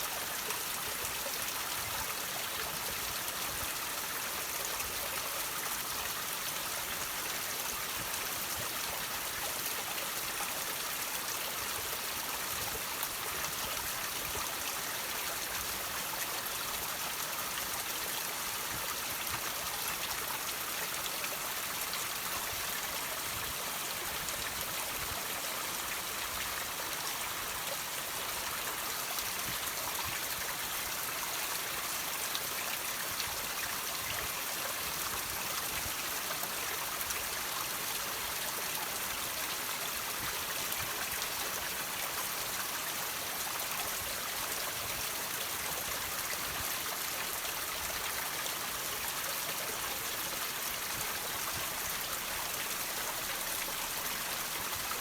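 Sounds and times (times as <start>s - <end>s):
water trickling over rocks: 0.1s - 55.0s.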